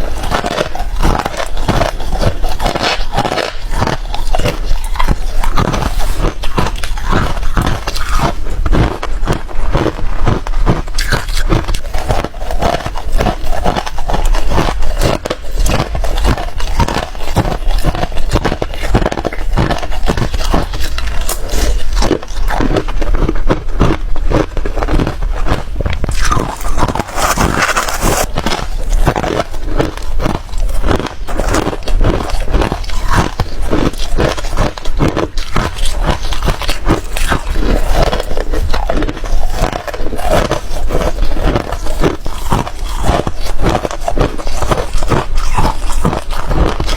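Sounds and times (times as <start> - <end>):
ice crunching while chewed: 0.0 - 46.9.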